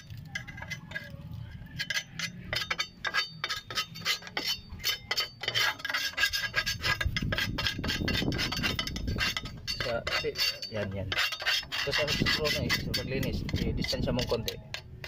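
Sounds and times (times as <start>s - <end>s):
screwdriver scraping metal: 0.0s - 15.0s.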